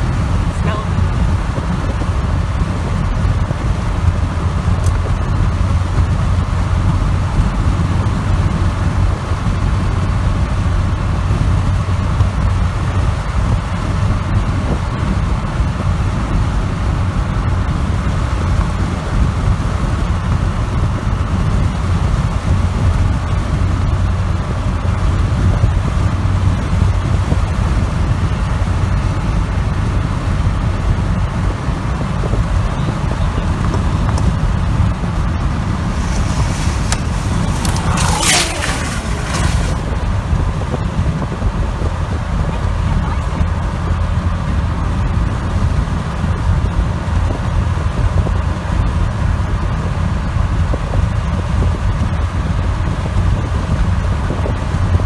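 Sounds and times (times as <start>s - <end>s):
vehicle engine droning: 0.0s - 54.4s.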